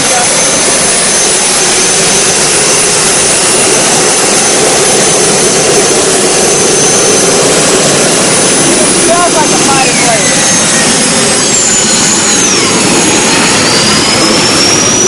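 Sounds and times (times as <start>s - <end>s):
high turbine whine: 0.0s - 15.0s
turbine engine rushing: 0.0s - 15.0s.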